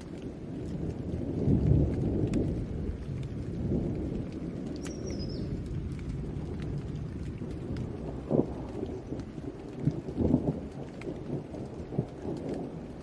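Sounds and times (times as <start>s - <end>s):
steady rain: 0.0s - 13.0s
rolling thunder: 0.2s - 13.0s.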